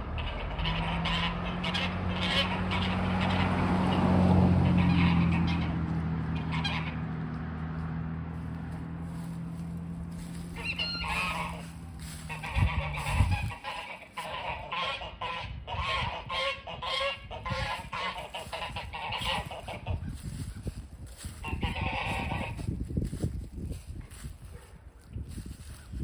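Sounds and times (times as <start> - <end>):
geese honking: 0.0 - 7.0, 8.7 - 26.0.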